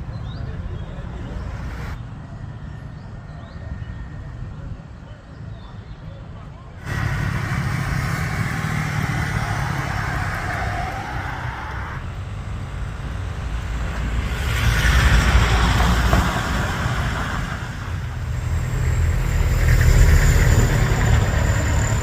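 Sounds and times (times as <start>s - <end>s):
vehicles passing close by: 0.0s - 22.0s.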